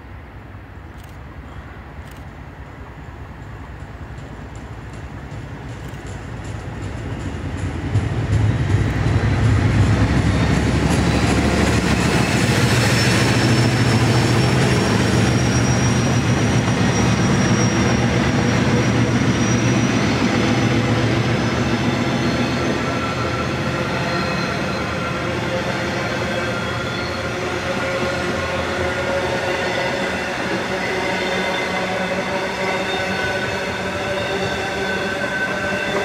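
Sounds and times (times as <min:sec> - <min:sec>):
diesel locomotive engine drone: 0:00.0 - 0:36.0.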